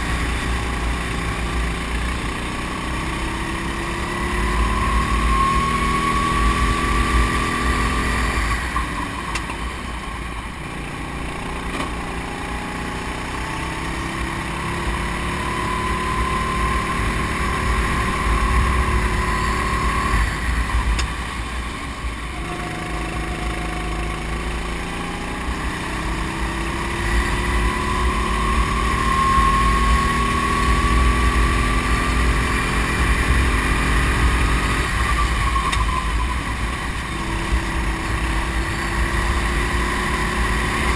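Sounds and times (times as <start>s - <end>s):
go-kart engine accelerating: 0.0s - 40.9s.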